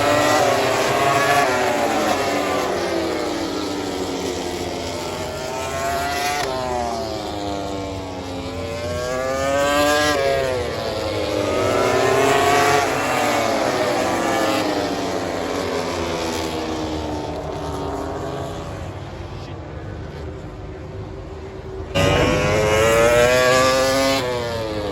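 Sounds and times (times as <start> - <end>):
racing motorcycles passing: 0.0 - 24.9.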